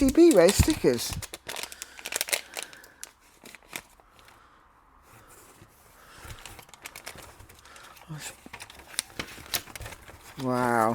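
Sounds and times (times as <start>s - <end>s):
packaging crinkling: 0.0s - 4.4s, 6.2s - 10.9s.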